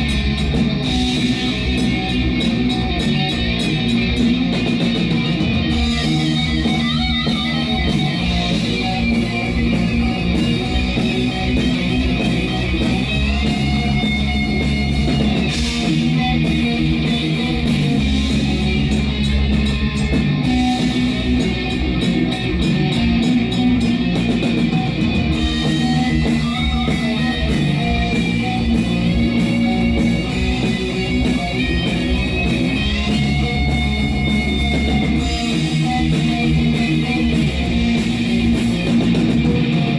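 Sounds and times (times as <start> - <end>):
fast even drumming: 0.0 - 39.9
heavy metal band playing live: 0.0 - 39.9.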